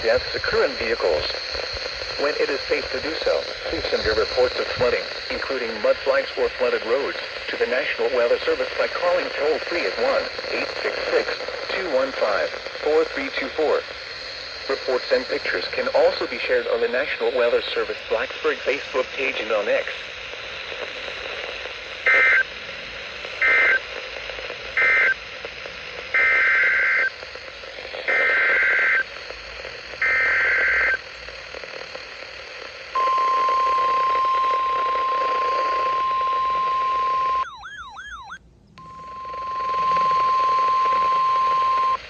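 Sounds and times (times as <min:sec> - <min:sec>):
buzzy data bursts: 0:00.0 - 0:42.0.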